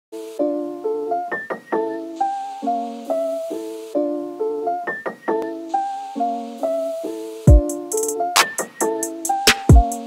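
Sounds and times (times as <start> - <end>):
keyboard melody of single notes: 0.2 - 10.0.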